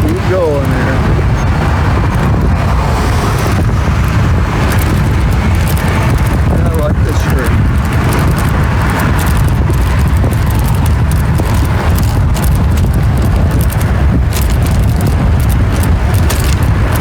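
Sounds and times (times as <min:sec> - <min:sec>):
wind rumbling on microphone: 0:00.0 - 0:17.0
light clicks and rattles: 0:03.4 - 0:17.0.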